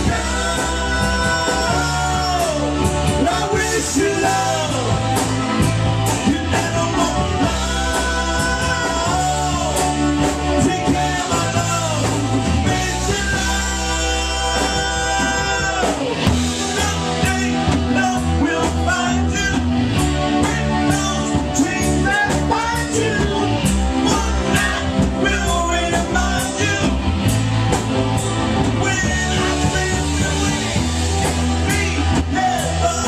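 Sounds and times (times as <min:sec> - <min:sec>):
rock song with singing: 0:00.0 - 0:33.0.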